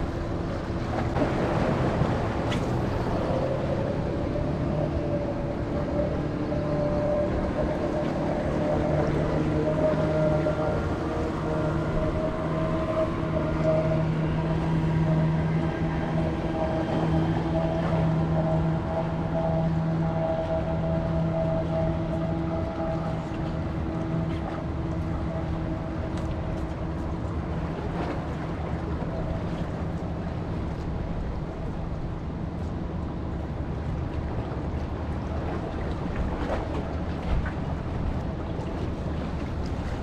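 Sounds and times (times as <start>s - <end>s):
boat motor droning: 0.0s - 40.0s.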